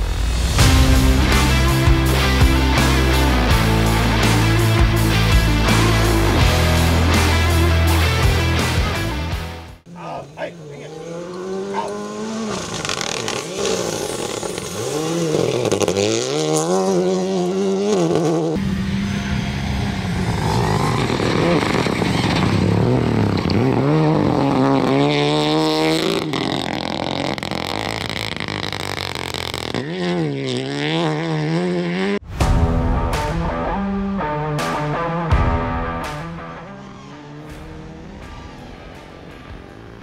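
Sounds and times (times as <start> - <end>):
rally car engine revving: 0.0 - 32.2, 33.0 - 40.0.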